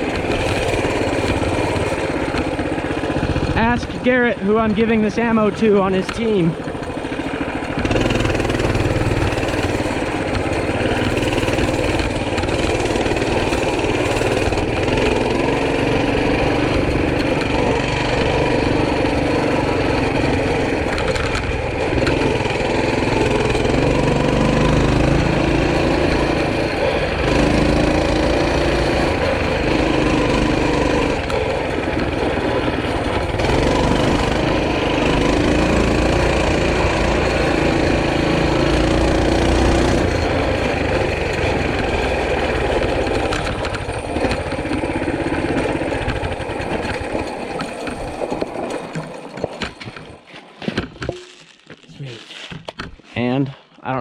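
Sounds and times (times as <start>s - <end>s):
trail bike engine revving: 0.0s - 50.1s.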